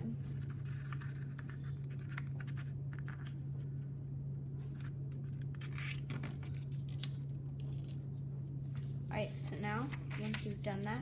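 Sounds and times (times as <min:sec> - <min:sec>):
steady low hum: 0:00.0 - 0:11.0
paper rustling and scraping: 0:00.2 - 0:03.4, 0:04.6 - 0:10.9.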